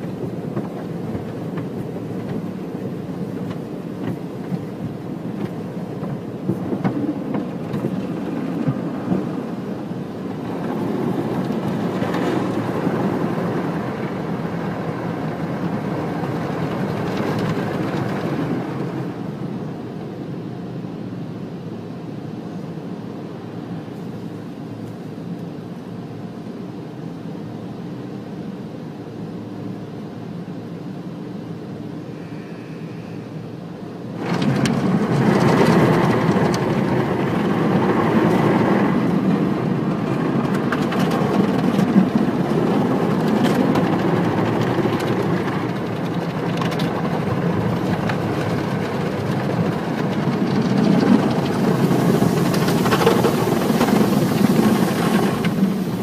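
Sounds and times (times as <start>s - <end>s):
loud rushing churning noise: 0.0s - 21.7s, 31.7s - 56.0s
car wash machinery hum: 0.0s - 56.0s.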